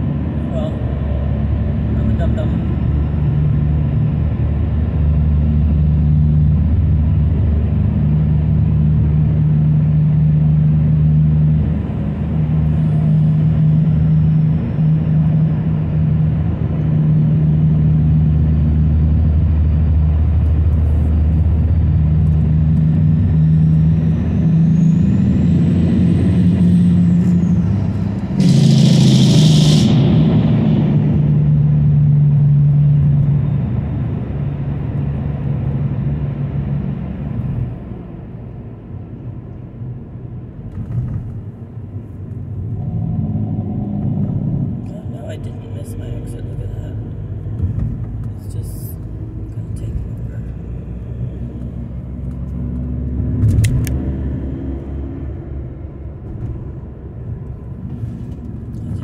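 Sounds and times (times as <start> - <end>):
car engine and road hum: 0.0 - 59.0.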